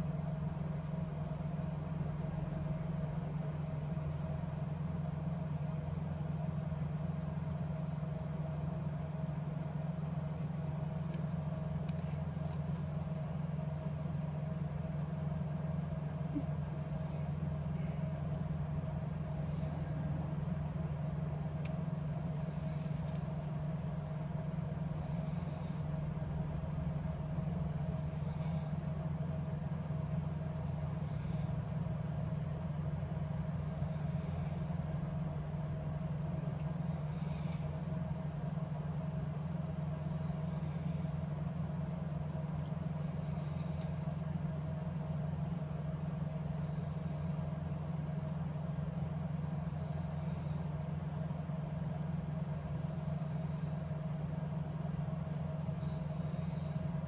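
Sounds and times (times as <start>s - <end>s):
faint constant whine: 0.0s - 57.0s
low machine hum: 0.0s - 57.0s.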